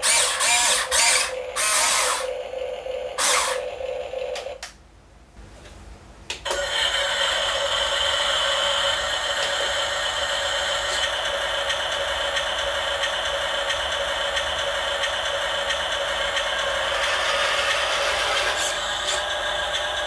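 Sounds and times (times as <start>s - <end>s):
toy motor whirring: 0.0s - 3.9s, 6.9s - 20.0s.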